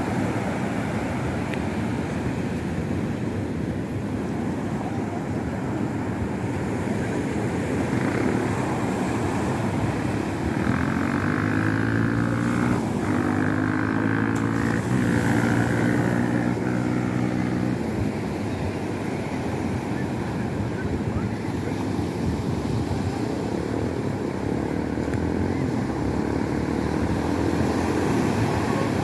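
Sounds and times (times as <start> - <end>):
surf: 0.0 - 29.0
wind: 0.0 - 29.0.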